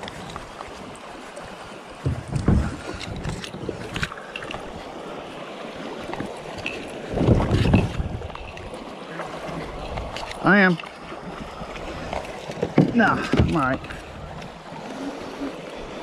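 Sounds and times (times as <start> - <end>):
river water running over rocks: 0.0 - 16.0.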